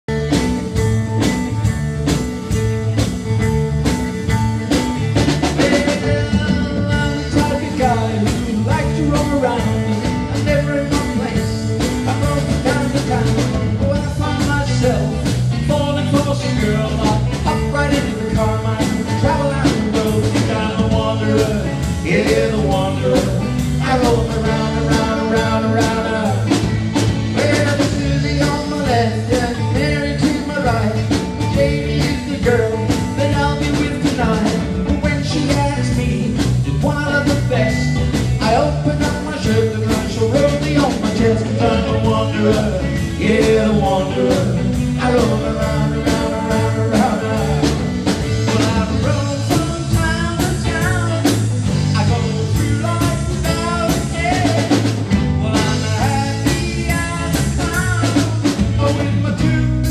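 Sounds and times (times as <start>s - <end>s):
drum and bass beat: 0.1s - 59.9s
electric guitar: 0.1s - 59.9s
keyboard: 0.1s - 59.9s
person singing: 5.3s - 26.7s, 27.3s - 59.9s.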